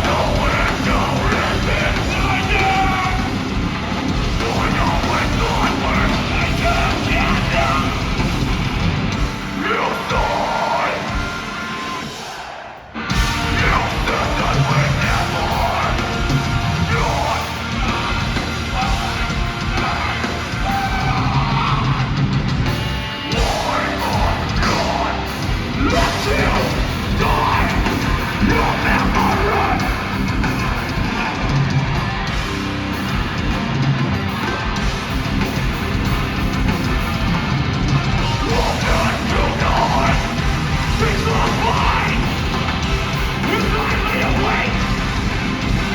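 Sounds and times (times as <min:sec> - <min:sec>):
heavy metal band playing live: 0:00.0 - 0:45.9.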